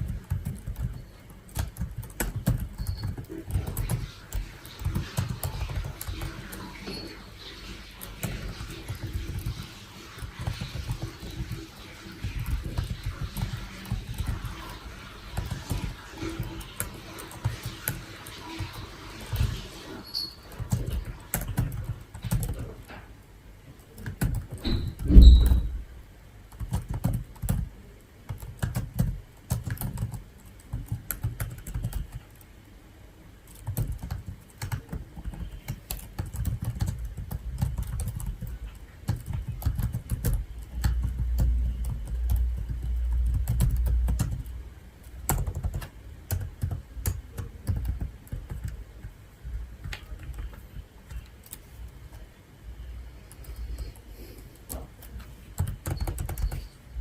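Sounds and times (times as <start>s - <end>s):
computer keyboard typing: 0.0s - 22.9s, 23.8s - 25.7s, 26.5s - 32.5s, 33.4s - 52.2s, 53.3s - 56.8s.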